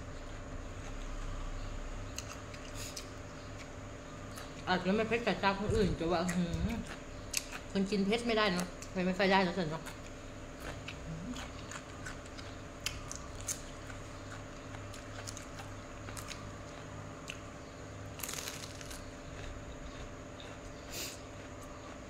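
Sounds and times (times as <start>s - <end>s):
crunchy chewing: 0.0s - 22.0s
steady low hum: 0.0s - 22.0s.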